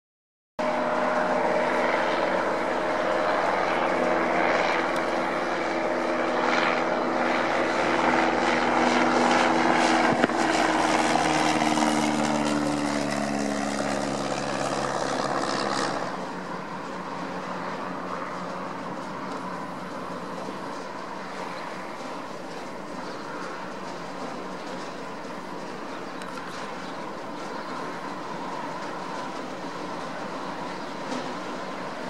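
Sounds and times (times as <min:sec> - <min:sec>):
airplane engine and propeller: 0:00.6 - 0:32.0.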